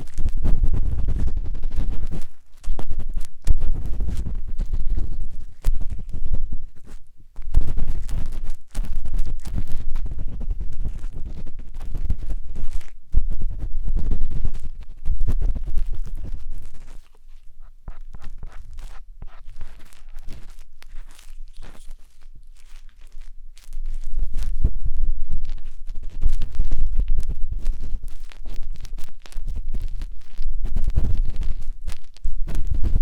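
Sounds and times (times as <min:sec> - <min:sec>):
matchstick scratching microphone ear: 0:00.0 - 0:33.0.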